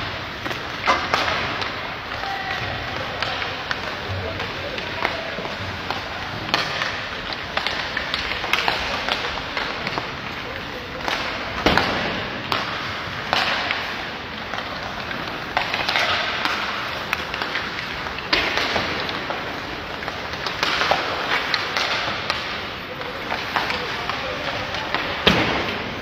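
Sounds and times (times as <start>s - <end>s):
hockey sticks striking puck: 0.0s - 26.0s
skate blades scraping ice: 0.0s - 26.0s.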